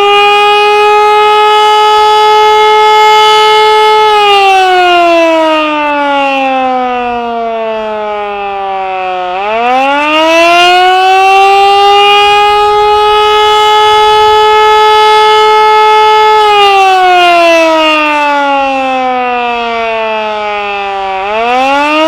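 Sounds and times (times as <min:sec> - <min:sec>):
warning siren wailing: 0:00.0 - 0:22.0.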